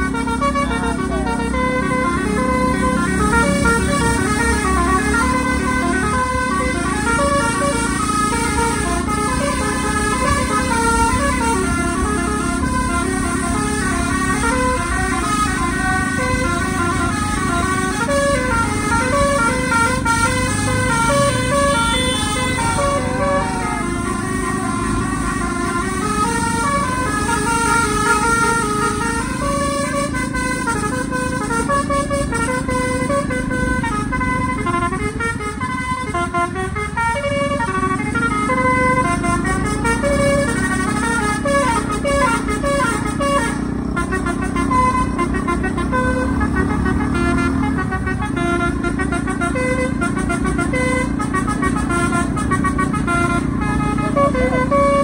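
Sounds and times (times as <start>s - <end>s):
musical air horn melody: 0.0s - 55.0s.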